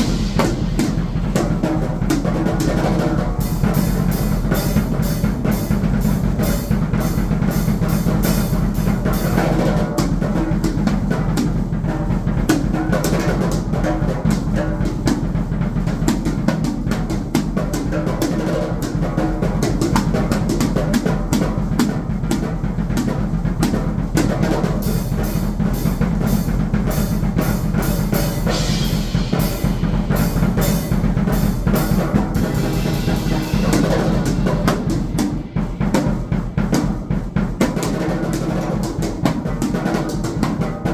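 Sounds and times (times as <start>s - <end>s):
fast drum kit playing: 0.0s - 40.9s.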